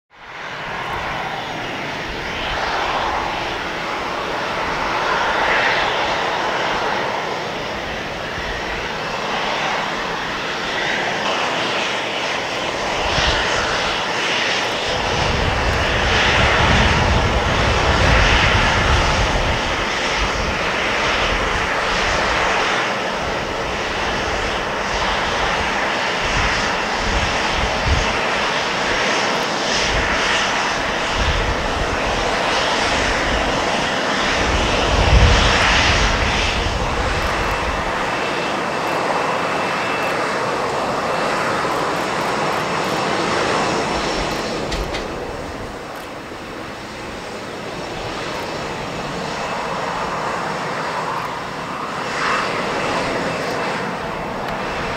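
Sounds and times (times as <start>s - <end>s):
jet engine whine: 0.1s - 54.9s.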